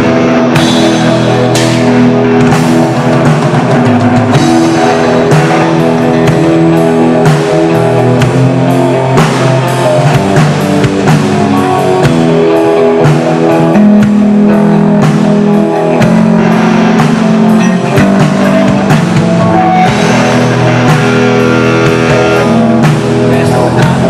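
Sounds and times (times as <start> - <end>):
drum kit: 0.0 - 24.0
electric guitars playing chords: 0.0 - 24.0.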